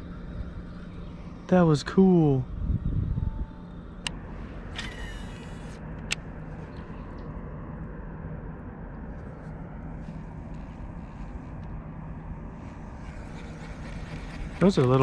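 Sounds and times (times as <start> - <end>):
distant motor drone: 0.0 - 15.0.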